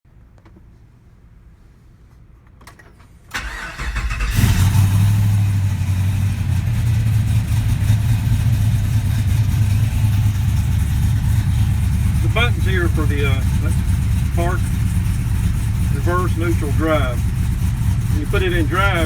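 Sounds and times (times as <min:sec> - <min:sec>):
truck engine idling: 0:03.4 - 0:19.0.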